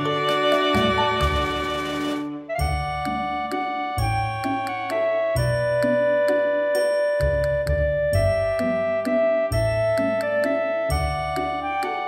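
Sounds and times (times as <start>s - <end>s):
simple melody over bass line: 0.0s - 12.0s.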